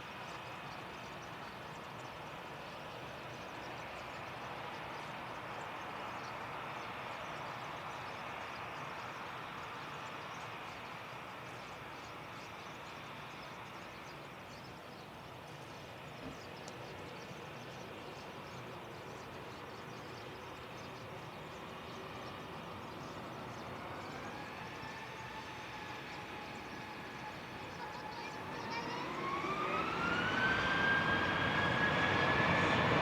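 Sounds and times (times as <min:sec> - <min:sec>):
distant jet aircraft rushing hiss: 0:00.0 - 0:33.0.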